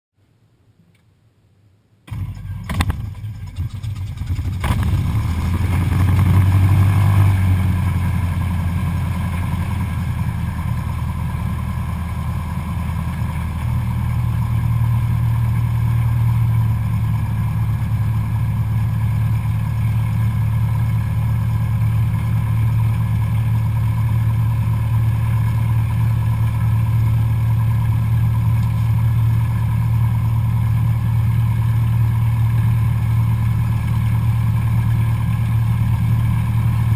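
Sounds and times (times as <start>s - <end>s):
piston aircraft engine droning: 2.1s - 36.9s.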